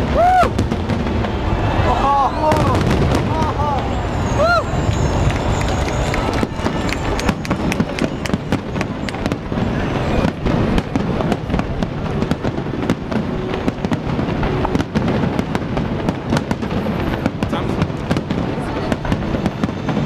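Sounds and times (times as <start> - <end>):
firework bangs and cracks: 0.0 - 20.0.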